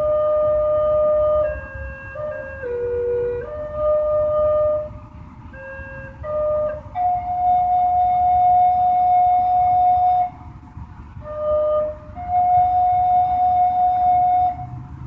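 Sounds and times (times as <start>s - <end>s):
low steady rumble: 0.0s - 15.0s
wind instrument playing held notes: 0.0s - 15.0s.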